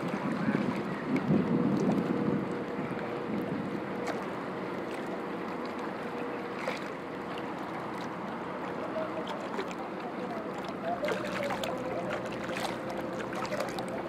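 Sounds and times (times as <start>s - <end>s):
waves lapping against shore: 0.0s - 14.0s.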